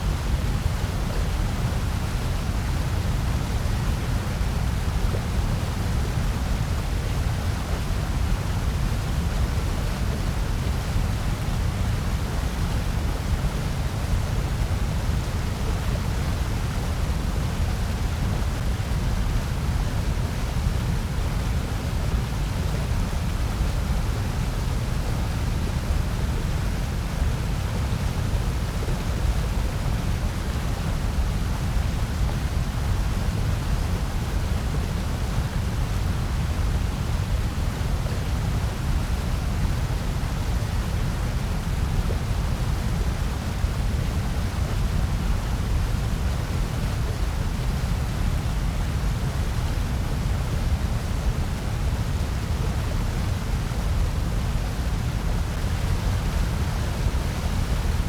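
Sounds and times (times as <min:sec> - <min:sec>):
constant noise rush: 0:00.0 - 0:58.0.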